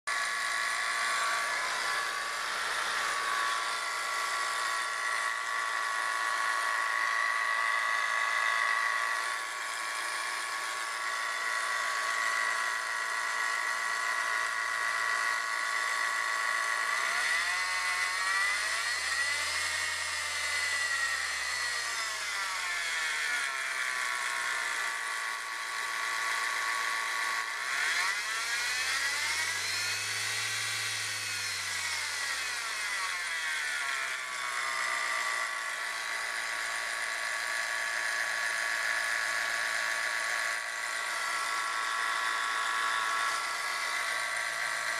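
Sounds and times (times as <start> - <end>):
high pulley whine: 0.1 - 44.9.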